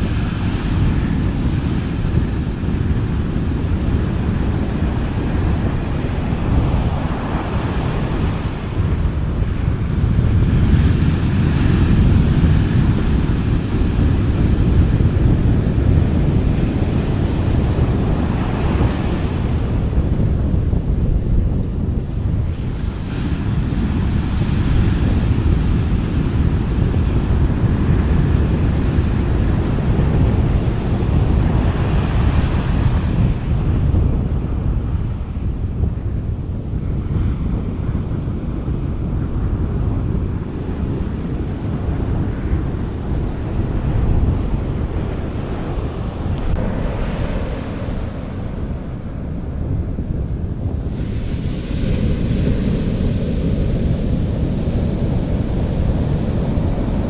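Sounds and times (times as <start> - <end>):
sea waves washing onto beach: 0.0 - 57.0
wind rumble on microphone: 0.0 - 57.0.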